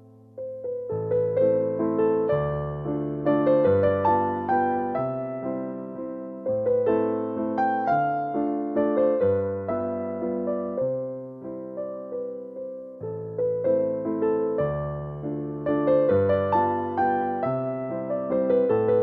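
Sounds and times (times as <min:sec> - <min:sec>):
gentle solo piano: 0:00.0 - 0:19.0.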